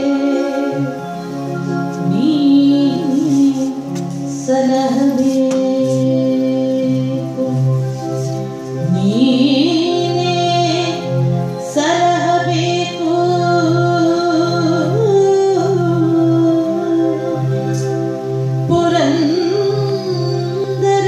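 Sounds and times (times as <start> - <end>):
woman singing: 0.0 - 1.2, 1.9 - 8.1, 8.8 - 18.0, 18.6 - 21.0.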